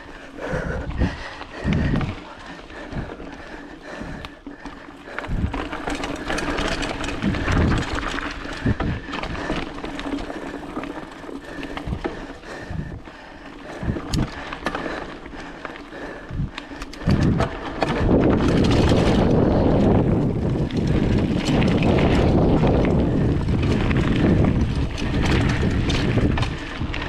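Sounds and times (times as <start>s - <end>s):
bike rattling and clicking: 0.0s - 27.0s
bike tyres on dirt: 0.0s - 27.0s.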